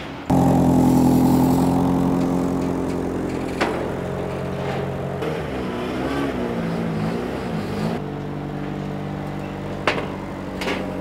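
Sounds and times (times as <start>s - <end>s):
car engine idling and revving: 0.3s - 11.0s.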